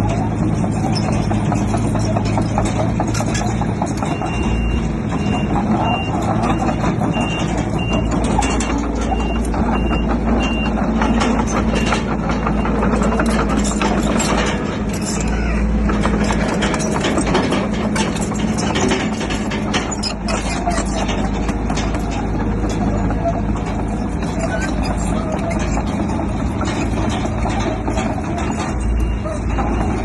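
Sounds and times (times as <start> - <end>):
diesel machinery running: 0.0 - 30.0
machinery clanks and clatter: 0.0 - 30.0.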